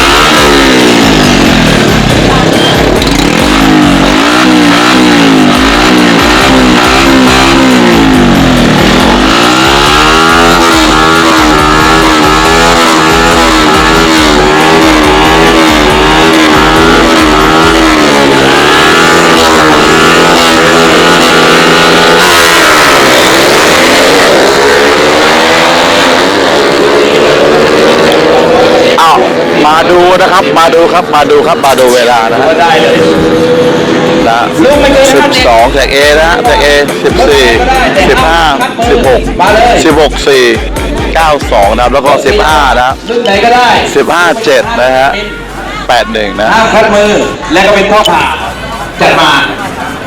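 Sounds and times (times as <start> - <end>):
motorcycle engines revving hard: 0.0 - 45.2, 45.9 - 50.0.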